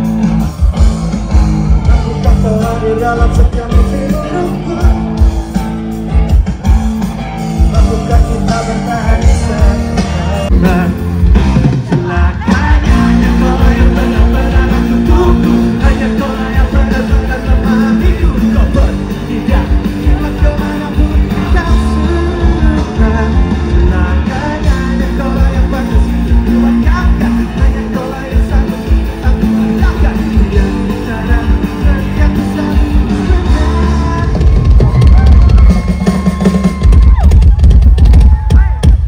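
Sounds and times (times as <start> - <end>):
live pop-rock band playing: 0.0 - 39.0
person singing: 1.7 - 5.6, 7.4 - 37.2.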